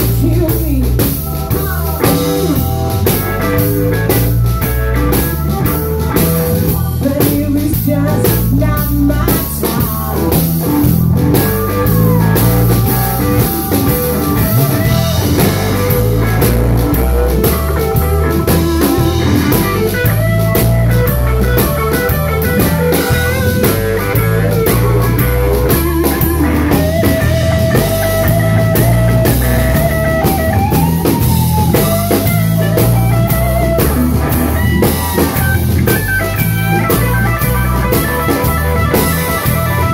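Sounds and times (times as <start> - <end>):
drum kit: 0.0 - 39.9
electric bass: 0.0 - 39.9
electric guitar lead: 0.0 - 39.9.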